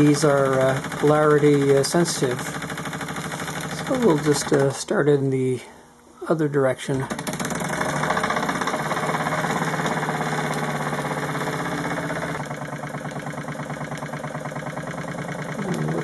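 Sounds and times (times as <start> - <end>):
model steam engine chuffing: 0.0 - 4.6, 7.1 - 16.0.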